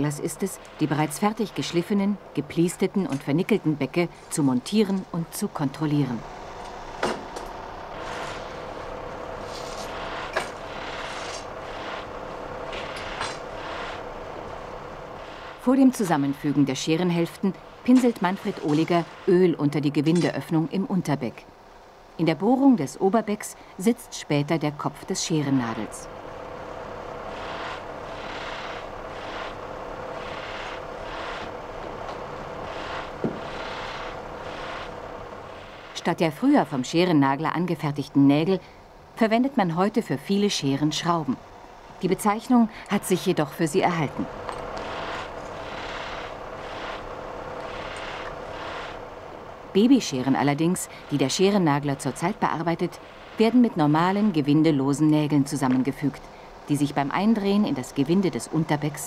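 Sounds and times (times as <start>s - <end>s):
pulsing hiss: 0.0s - 59.0s
steady background hum: 0.0s - 59.0s.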